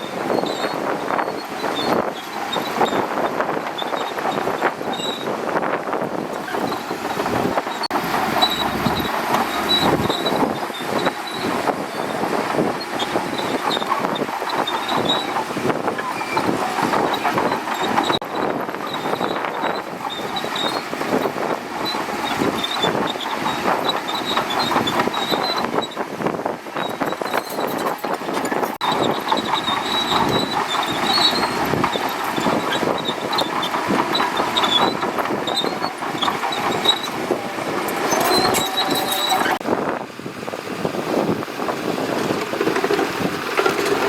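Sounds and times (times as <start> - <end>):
short high squeaks: 0.0 - 3.2, 3.8 - 5.4, 6.4 - 21.0, 21.8 - 26.0, 26.8 - 39.6
steel tracks clanking: 0.0 - 39.8, 40.5 - 44.0
bulldozer engine running: 0.0 - 44.0.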